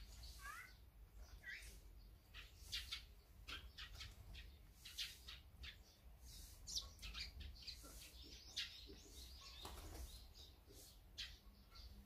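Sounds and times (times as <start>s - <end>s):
magpies calling: 0.0s - 12.0s.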